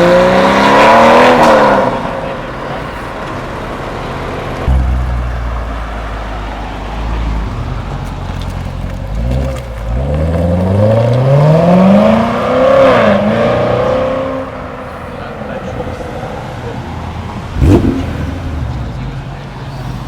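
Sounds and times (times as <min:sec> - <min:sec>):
car engine rumbling and accelerating: 0:00.0 - 0:20.0.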